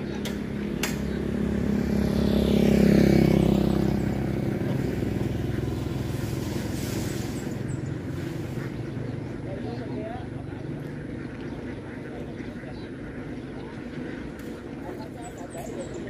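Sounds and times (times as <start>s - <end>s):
motorbike passing by: 0.0s - 16.0s.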